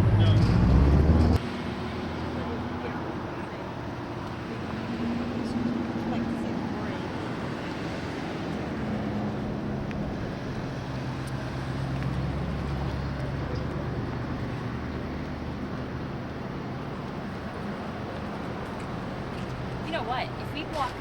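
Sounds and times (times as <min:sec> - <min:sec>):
outdoor traffic noise: 0:00.0 - 0:21.0
vehicle engine hum: 0:00.0 - 0:21.0.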